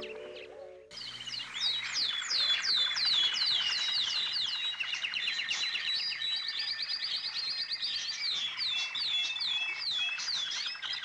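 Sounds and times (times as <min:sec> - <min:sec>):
bird whistling downward notes: 0:00.0 - 0:11.0
birds chirping: 0:00.0 - 0:11.0.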